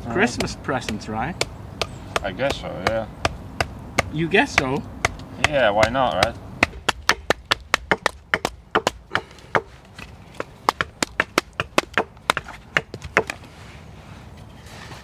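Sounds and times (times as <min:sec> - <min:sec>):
blade chopping wood: 0:00.2 - 0:13.4.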